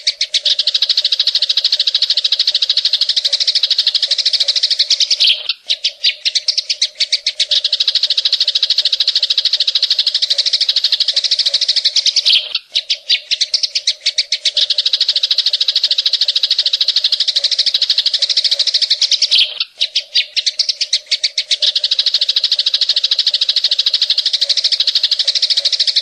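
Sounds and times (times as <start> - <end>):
bird chattering rapid high notes: 0.0 - 26.0.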